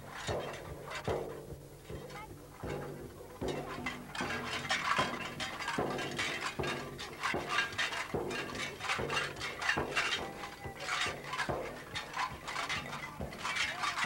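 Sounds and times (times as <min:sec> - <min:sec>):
drum beaten in a steady rhythm: 0:00.0 - 0:14.0
metallic jingling: 0:00.0 - 0:14.0.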